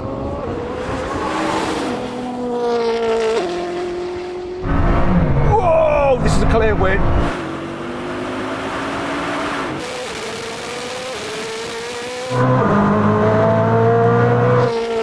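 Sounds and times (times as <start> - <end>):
car engines accelerating hard: 0.0 - 15.0.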